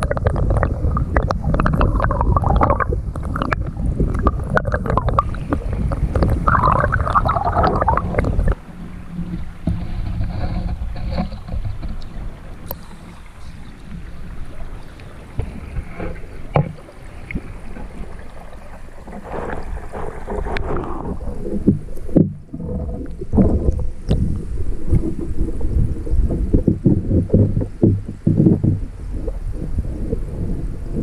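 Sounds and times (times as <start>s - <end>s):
muffled underwater stream rushing: 0.0s - 31.0s.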